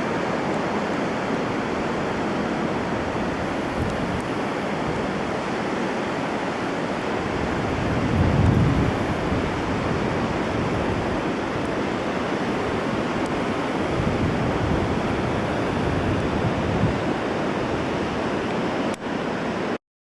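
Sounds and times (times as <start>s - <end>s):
water rushing: 0.0s - 19.8s.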